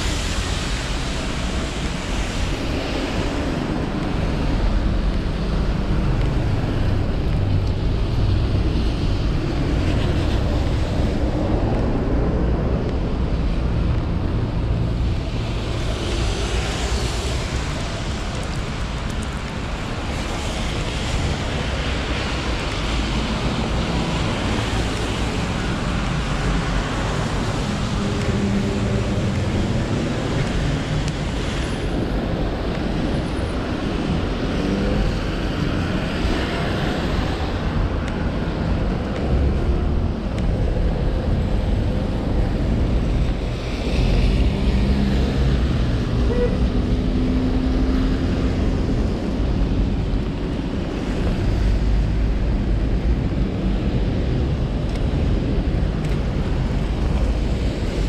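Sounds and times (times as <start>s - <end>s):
traffic hissing on wet road: 0.0s - 58.0s
wind rumbling on microphone: 0.0s - 58.0s.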